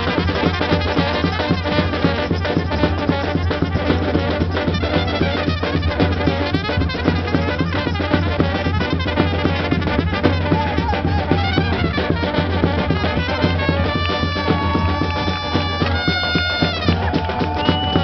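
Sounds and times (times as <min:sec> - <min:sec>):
steady drum beat: 0:00.0 - 0:18.0
trumpets and tubas playing: 0:00.0 - 0:18.0.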